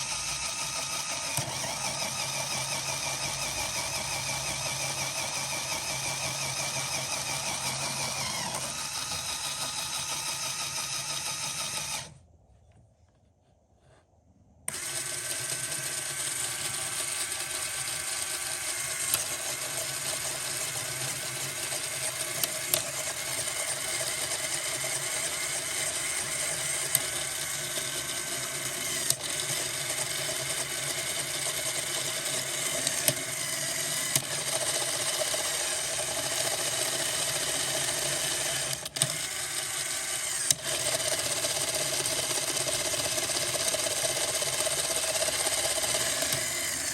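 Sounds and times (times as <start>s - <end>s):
small electric motor whirring: 0.0s - 12.2s, 14.7s - 46.9s
whine of meshing plastic gears: 0.0s - 12.2s, 14.7s - 46.9s.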